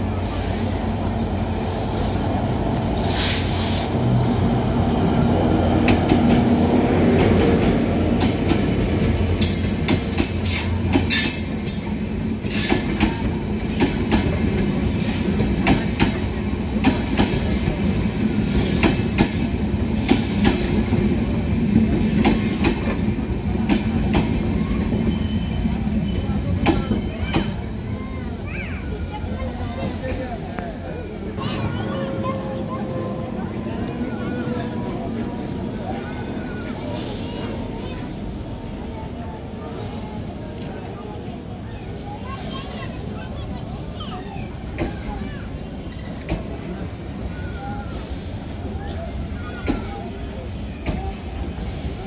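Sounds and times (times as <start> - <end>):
diesel locomotive engine humming: 0.0 - 52.0.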